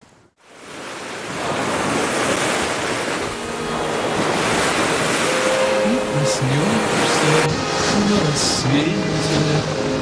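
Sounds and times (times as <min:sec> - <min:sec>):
sea waves washing on shore: 0:00.4 - 0:10.0.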